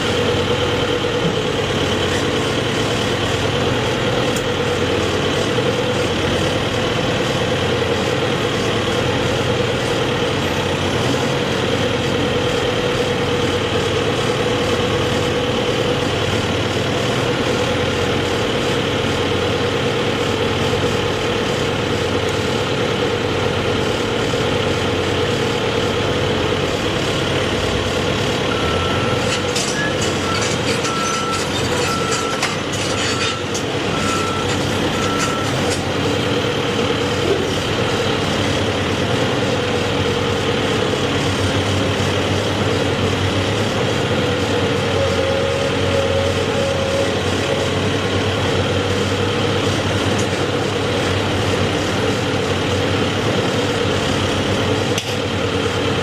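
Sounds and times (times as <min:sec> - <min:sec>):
constant machine whine: 0:00.0 - 0:56.0
heavy machinery running: 0:00.0 - 0:56.0.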